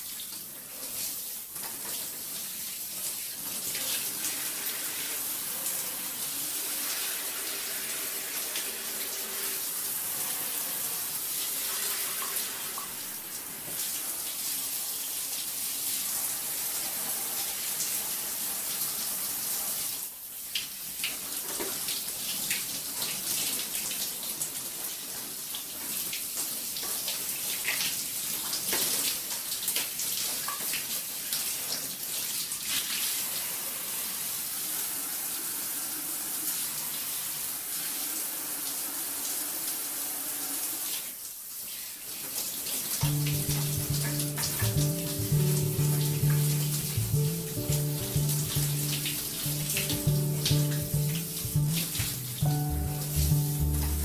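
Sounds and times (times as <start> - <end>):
shower water splattering: 0.0 - 54.0.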